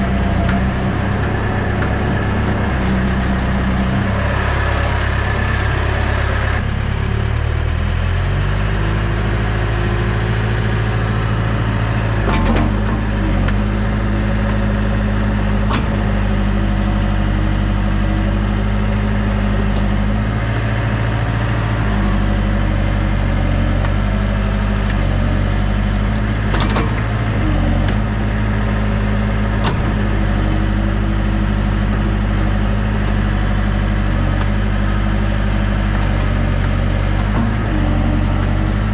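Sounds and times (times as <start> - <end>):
heavy equipment engine running: 0.0 - 38.9.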